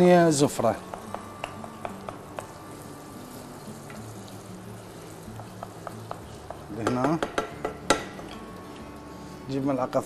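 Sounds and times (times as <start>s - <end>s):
paste sizzling in oil: 0.0s - 9.6s.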